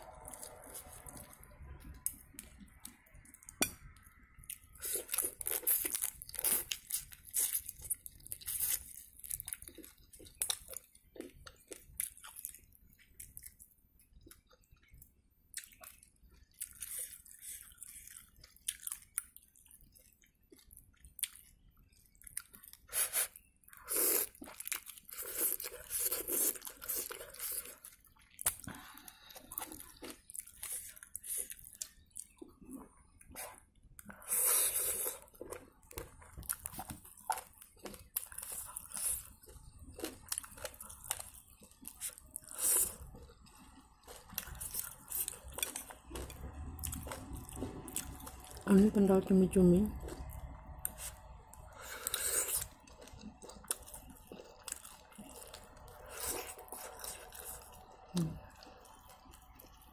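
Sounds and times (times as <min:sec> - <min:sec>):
wet chewing and smacking: 0:00.2 - 0:48.7, 0:49.9 - 0:59.9.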